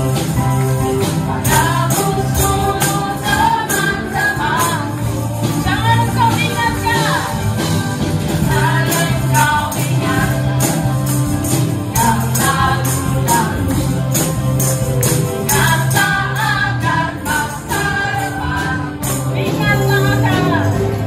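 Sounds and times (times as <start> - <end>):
gospel singing with band: 0.0 - 21.0.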